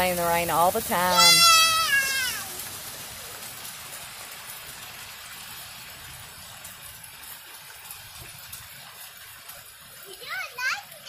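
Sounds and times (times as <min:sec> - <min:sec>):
heavy rain on asphalt: 0:00.0 - 0:11.0.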